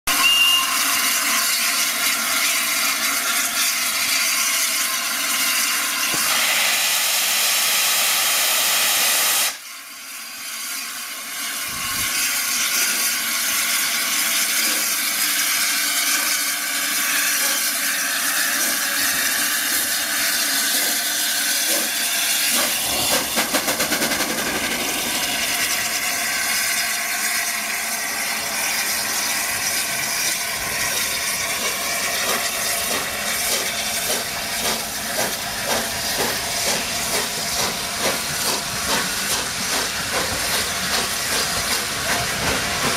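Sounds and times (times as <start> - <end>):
steam locomotive exhaust beats: 0.1 - 42.9
steam hissing: 0.2 - 42.9.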